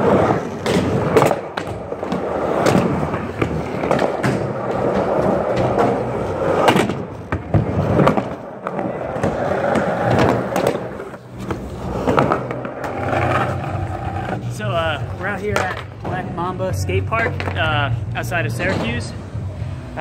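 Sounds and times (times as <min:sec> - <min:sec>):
skateboard wheels rolling on concrete: 0:00.0 - 0:16.3.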